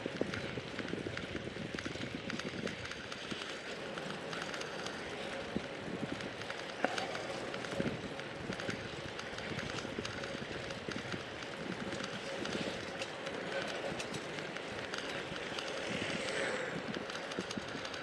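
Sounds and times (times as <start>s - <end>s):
bicycle tyres rolling with rattles: 0.0s - 18.0s.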